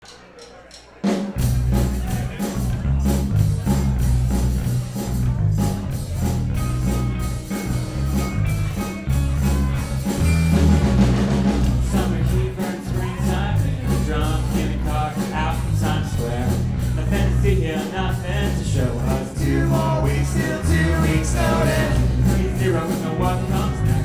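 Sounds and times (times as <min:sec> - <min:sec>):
steady drum beat: 0:00.4 - 0:24.0
live rocksteady band playing: 0:01.0 - 0:24.0
heavy repeating bass line: 0:01.4 - 0:24.0.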